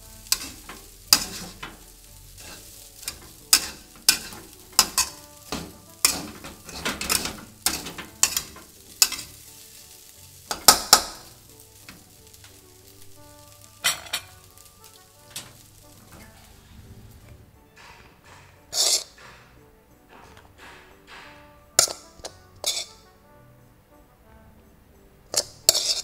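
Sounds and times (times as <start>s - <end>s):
metal spatula scraping a wok: 0.0s - 19.4s, 20.2s - 23.1s, 25.3s - 26.0s
rice sizzling: 0.0s - 26.0s.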